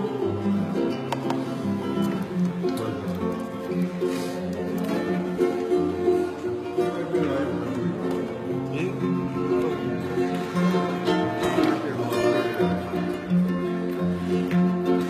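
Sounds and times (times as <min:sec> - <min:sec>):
acoustic guitars strumming: 0:00.0 - 0:15.0
plucked strings: 0:00.0 - 0:15.0.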